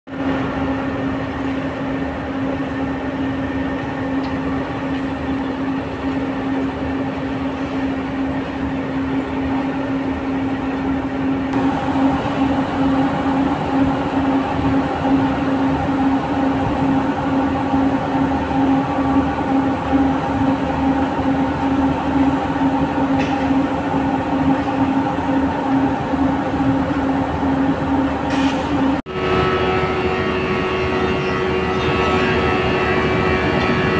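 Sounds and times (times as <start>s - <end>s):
heavy machinery drone: 0.1s - 33.9s
higher hum: 4.1s - 33.9s.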